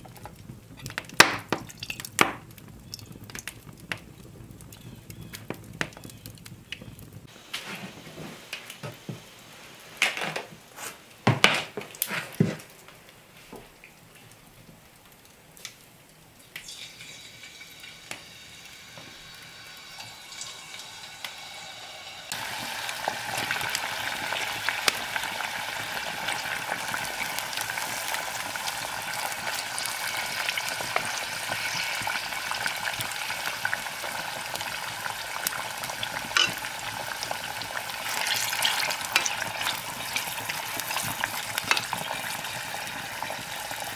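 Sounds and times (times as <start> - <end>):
potatoes sizzling in hot fat: 0.0 - 43.9.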